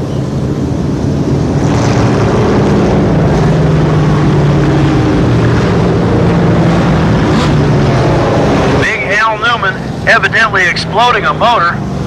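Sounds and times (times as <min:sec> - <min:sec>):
racing truck engines droning: 0:00.0 - 0:12.0.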